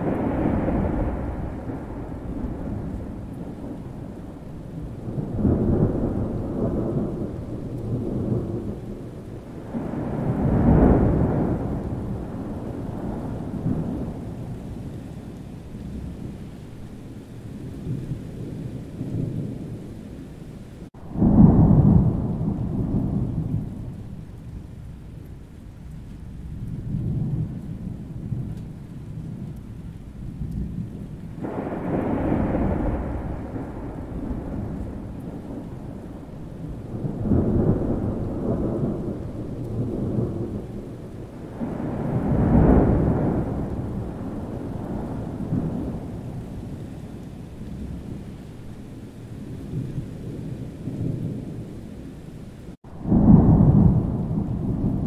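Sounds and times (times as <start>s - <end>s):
rolling thunder: 0.0s - 55.0s
steady rain: 0.0s - 55.0s.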